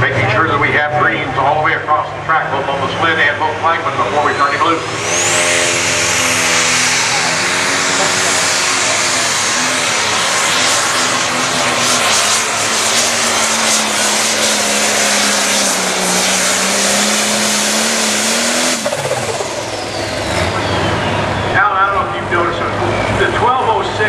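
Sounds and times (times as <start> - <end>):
diesel tractor engine running flat out: 0.0 - 24.0
turbo whine spooling down: 2.9 - 23.4.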